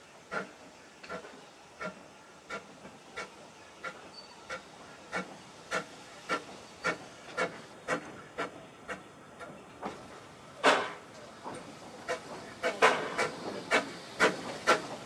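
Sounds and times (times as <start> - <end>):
steam locomotive exhaust beats: 0.0 - 15.0.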